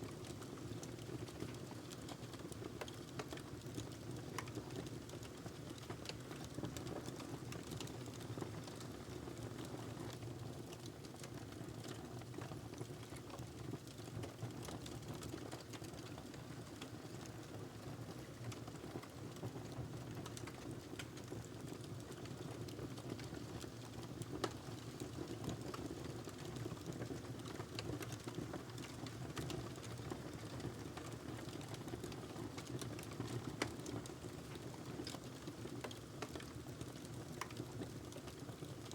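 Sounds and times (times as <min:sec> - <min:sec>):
burning log crackling and popping: 0:00.1 - 0:38.9.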